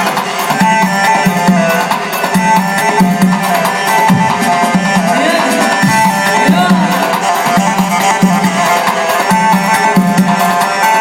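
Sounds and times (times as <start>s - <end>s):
drum rhythm: 0.0s - 11.0s
live band music: 0.0s - 11.0s.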